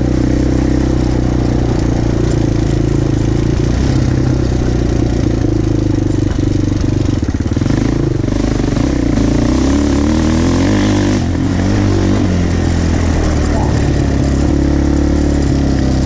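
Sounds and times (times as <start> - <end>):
quad engine revving: 0.0 - 16.0.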